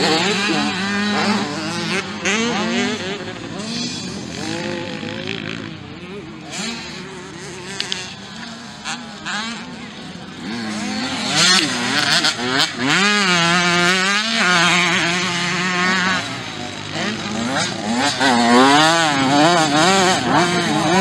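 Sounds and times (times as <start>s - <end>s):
motocross engines revving: 0.0s - 21.0s.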